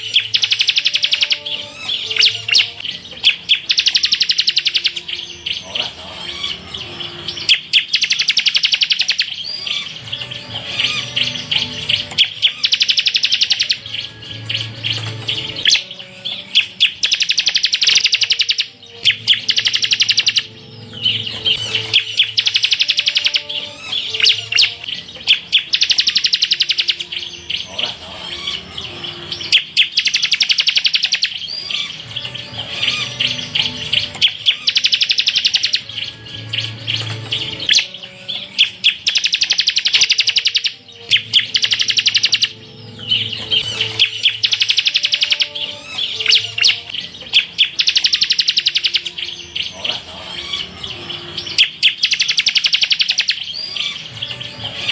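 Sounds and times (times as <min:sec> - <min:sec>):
bird singing trilled phrases: 0:00.0 - 0:54.9.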